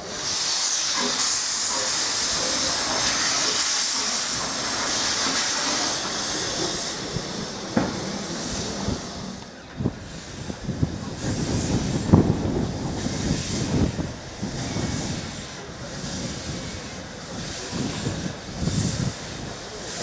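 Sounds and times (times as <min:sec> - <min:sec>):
steam hissing from locomotive: 0:00.0 - 0:20.0.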